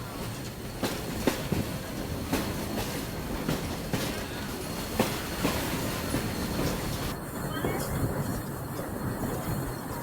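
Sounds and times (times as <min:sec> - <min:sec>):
railcar rumbling on track: 0:00.0 - 0:10.0.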